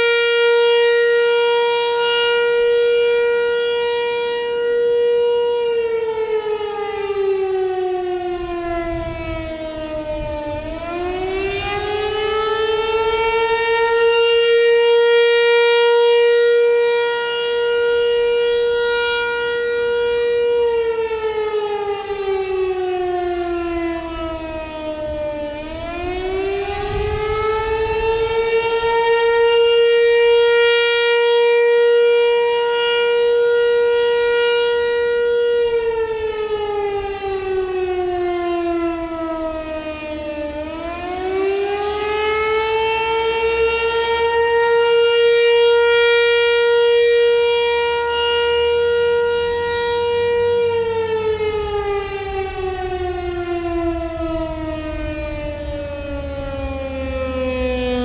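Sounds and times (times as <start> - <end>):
outdoor warning siren: 0.0 - 58.0.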